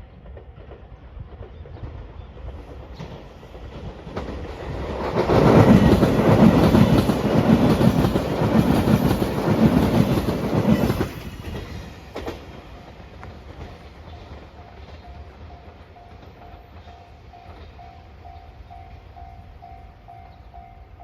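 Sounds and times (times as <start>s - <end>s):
train wheels clattering over rail joints: 0.1s - 18.4s.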